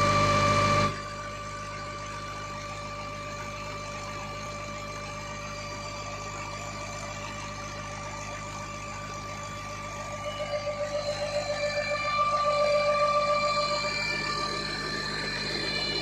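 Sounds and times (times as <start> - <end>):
pump whine: 0.0 - 16.0.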